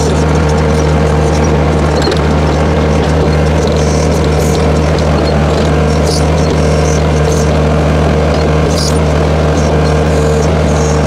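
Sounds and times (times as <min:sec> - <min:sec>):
hydraulic whine: 0:00.0 - 0:11.0
skid steer engine running: 0:00.0 - 0:11.0.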